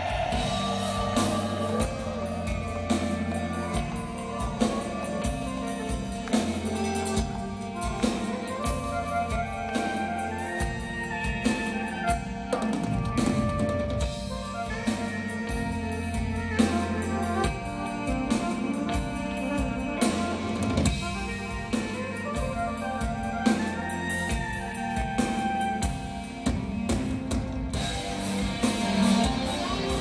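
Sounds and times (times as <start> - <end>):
metal band playing live: 0.0 - 30.0.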